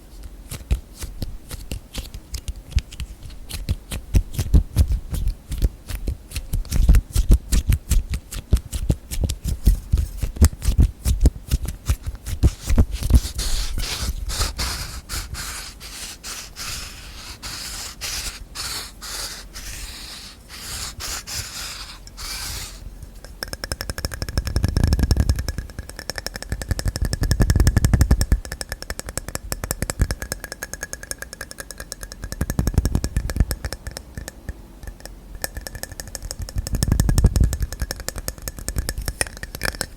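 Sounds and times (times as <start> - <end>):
fingers tapping on containers: 1.5 - 39.9.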